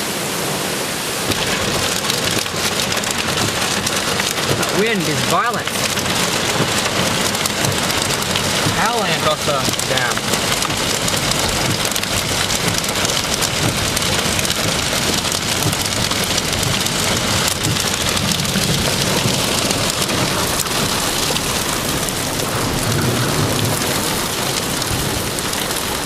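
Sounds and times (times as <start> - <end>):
heavy rain and hail: 0.0 - 26.0.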